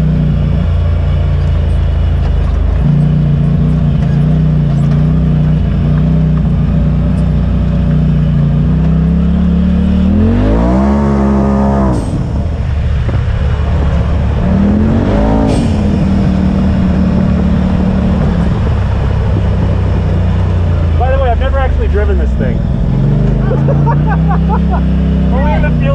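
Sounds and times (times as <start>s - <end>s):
off-road vehicle engine revving: 0.0s - 25.9s.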